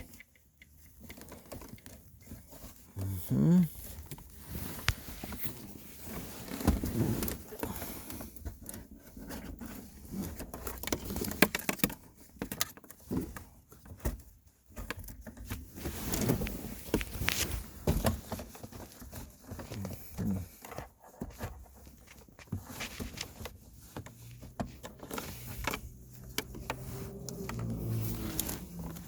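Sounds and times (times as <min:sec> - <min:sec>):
parts rustling: 0:00.0 - 0:29.0.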